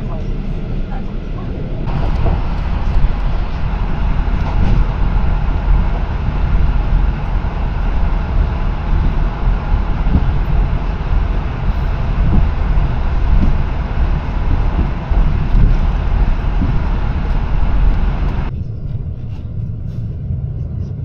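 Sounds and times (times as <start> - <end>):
train rumbling from inside carriage: 0.0 - 21.0.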